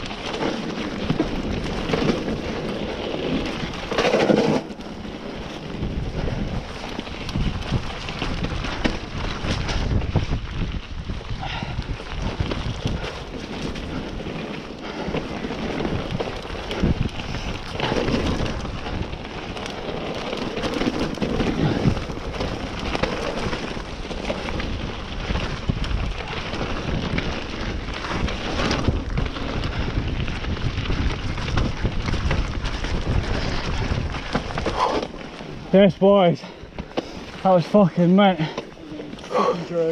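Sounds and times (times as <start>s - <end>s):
wind buffeting microphone: 0.0s - 37.5s
bike rattling and knocking: 0.0s - 39.9s
tyres rolling over dirt: 0.0s - 39.9s.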